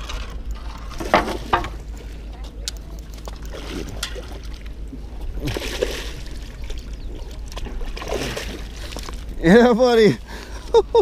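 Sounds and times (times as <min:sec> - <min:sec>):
fish splashing in shallow water: 0:00.0 - 0:09.6
water sloshing against rocks: 0:00.0 - 0:10.7.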